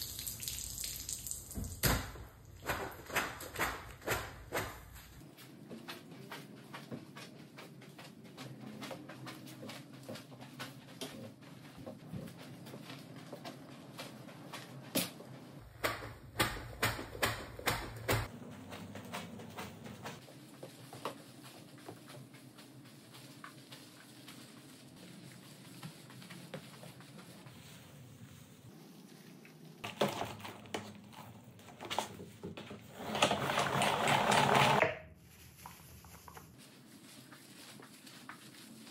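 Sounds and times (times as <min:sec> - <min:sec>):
wet mop strokes on wooden floor: 0:02.4 - 0:38.9.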